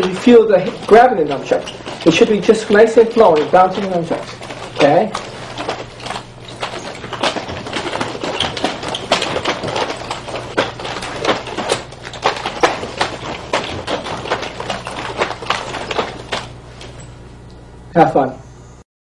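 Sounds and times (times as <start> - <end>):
chain rattling: 0.0 - 17.2.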